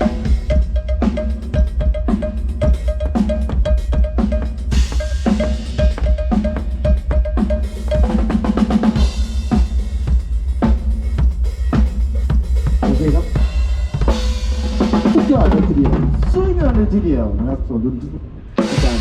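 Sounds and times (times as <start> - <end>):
drum kit playing: 0.0 - 17.6, 18.5 - 19.0.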